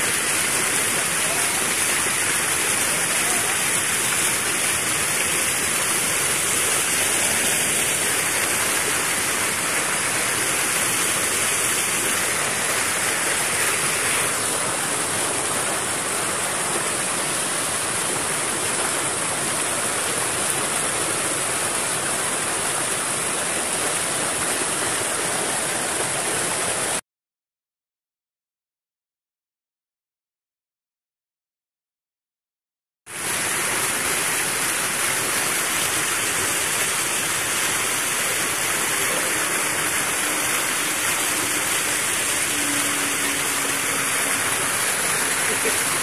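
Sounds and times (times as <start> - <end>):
floodwater rushing: 0.0 - 27.0, 33.1 - 46.0.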